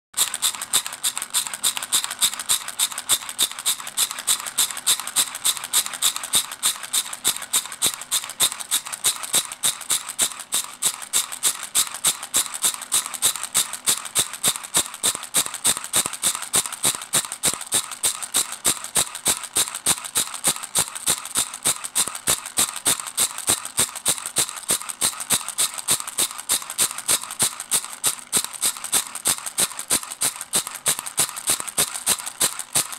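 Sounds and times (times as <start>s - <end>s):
rhythmic scraping rattle: 0.2s - 32.9s.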